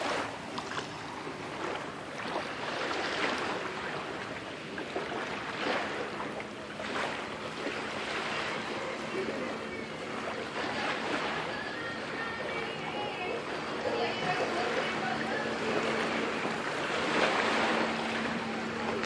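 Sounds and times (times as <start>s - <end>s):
shallow water sloshing at shore: 0.0s - 19.0s.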